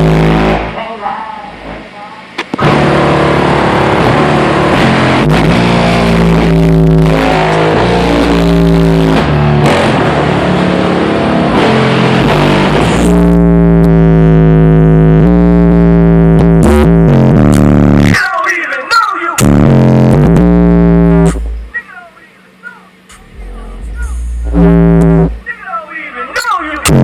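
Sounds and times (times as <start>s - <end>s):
loud rock music through car stereo: 0.0s - 0.8s, 2.4s - 22.0s, 22.6s - 25.6s, 26.2s - 27.0s.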